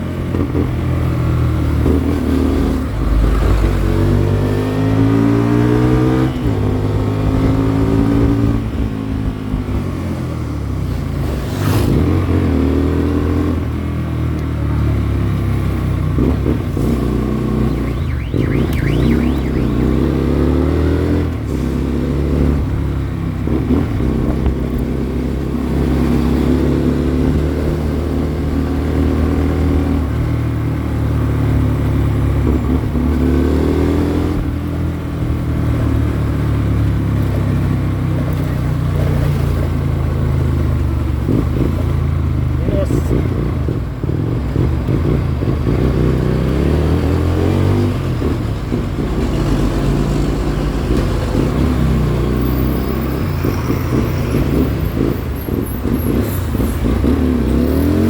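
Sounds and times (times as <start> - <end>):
motorcycle engine accelerating: 0.1 - 58.0.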